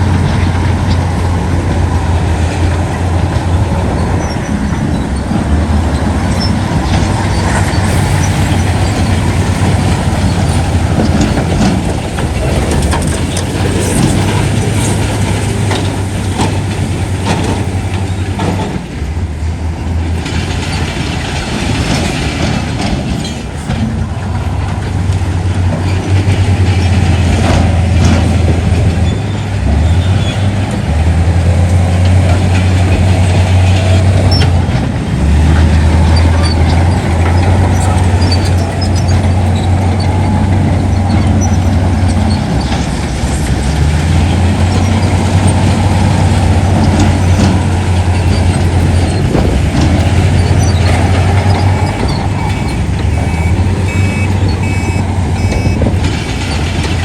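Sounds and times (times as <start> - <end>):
clanks and knocks: 0.0 - 57.0
diesel machinery engine drone: 0.0 - 57.0
mechanical rumble: 0.0 - 57.0.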